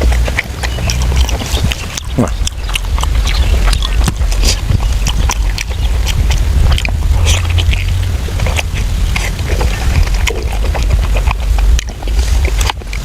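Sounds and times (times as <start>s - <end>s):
low rumble: 0.0s - 13.0s
wet chewing and smacking: 0.0s - 13.0s.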